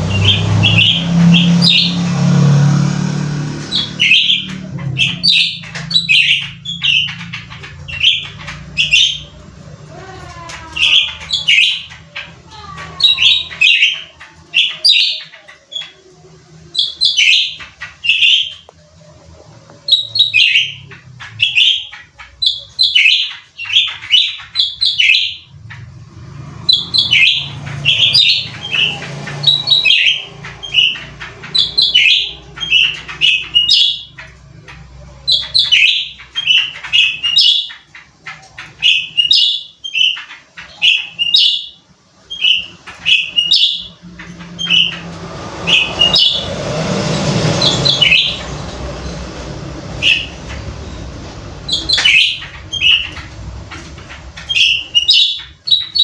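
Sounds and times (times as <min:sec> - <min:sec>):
songbird chirping loudly: 0:00.0 - 0:19.1, 0:19.7 - 0:56.0.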